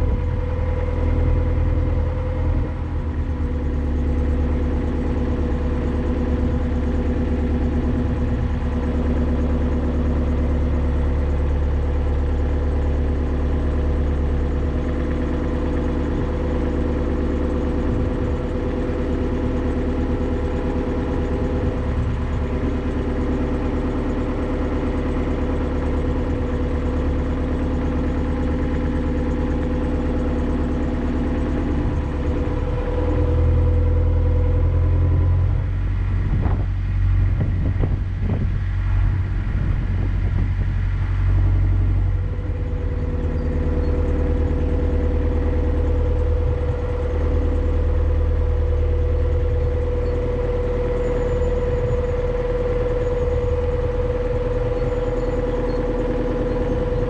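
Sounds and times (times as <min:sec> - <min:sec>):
diesel boat engine droning: 0:00.0 - 0:57.0.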